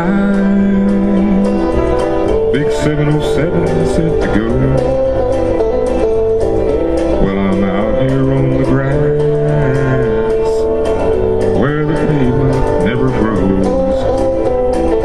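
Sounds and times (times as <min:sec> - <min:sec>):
sliding lead guitar notes: 0:00.0 - 0:15.0
strummed acoustic guitar: 0:00.0 - 0:15.0.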